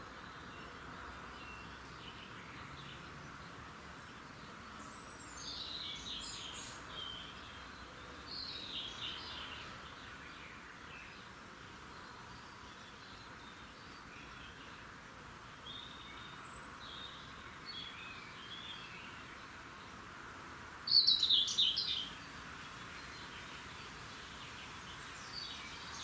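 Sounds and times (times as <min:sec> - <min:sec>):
songbirds chirping: 0:00.0 - 0:26.0
steady background hiss: 0:00.0 - 0:26.0.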